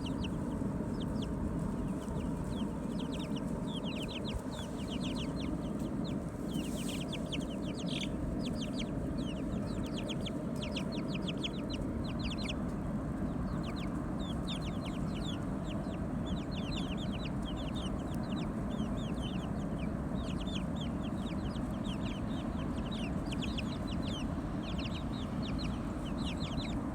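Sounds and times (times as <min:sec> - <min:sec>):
chickens chirping and peeping: 0:00.0 - 0:26.9
low background rumble: 0:00.0 - 0:26.9.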